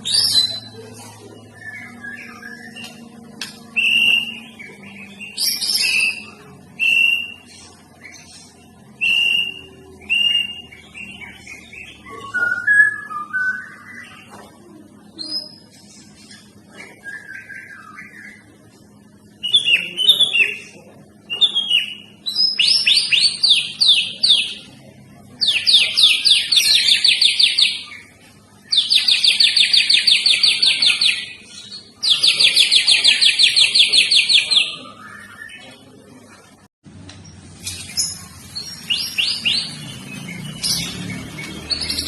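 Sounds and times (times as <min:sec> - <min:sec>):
songbird singing: 0:00.0 - 0:36.0, 0:37.1 - 0:42.0.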